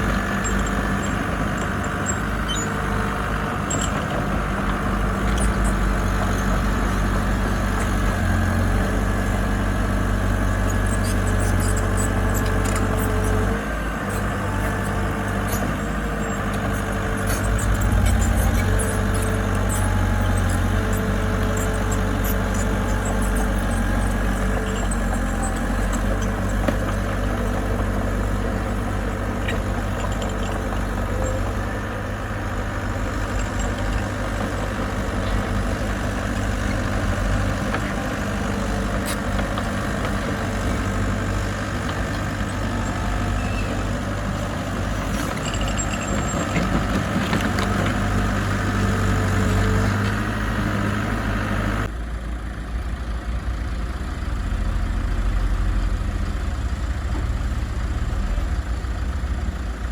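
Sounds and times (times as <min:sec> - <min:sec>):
heavy equipment diesel engine: 0:00.0 - 0:59.9.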